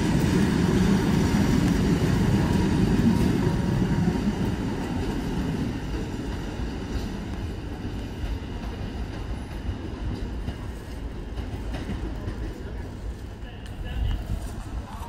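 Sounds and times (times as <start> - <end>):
train carriages rumbling on rails: 0.0 - 15.0.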